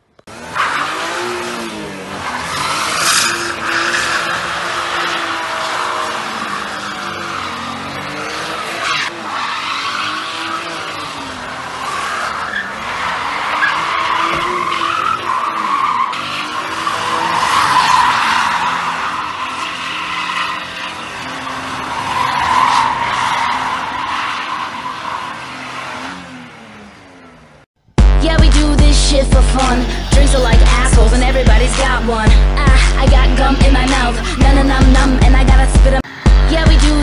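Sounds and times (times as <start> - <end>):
tyres skidding: 0.0 - 37.0
car engine revving: 0.2 - 37.0.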